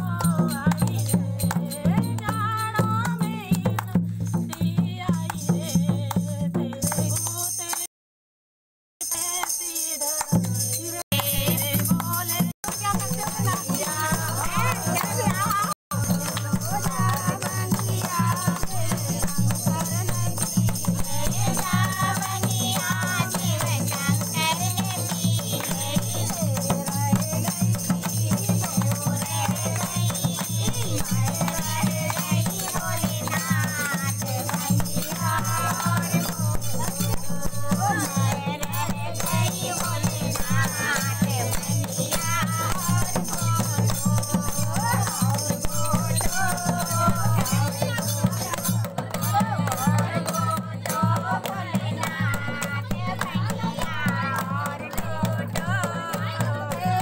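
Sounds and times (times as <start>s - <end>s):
women singing in chorus: 0.0s - 7.8s, 9.0s - 57.0s
handclaps: 6.7s - 7.9s, 9.1s - 57.0s
barrel drum: 10.3s - 57.0s.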